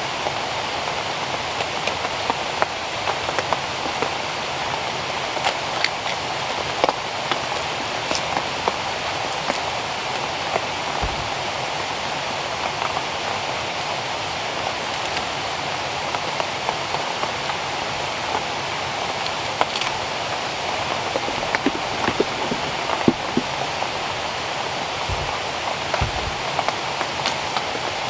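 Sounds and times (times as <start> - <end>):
individual raindrops: 0.0 - 28.0
steady rain hiss: 0.0 - 28.0.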